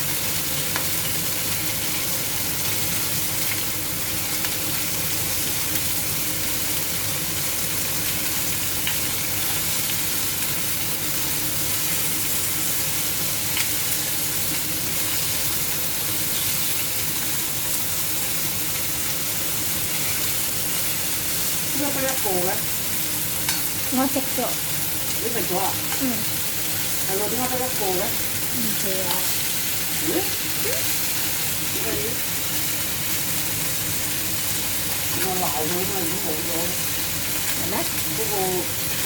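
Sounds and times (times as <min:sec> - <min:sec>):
chicken frying in hot oil: 0:00.0 - 0:39.0.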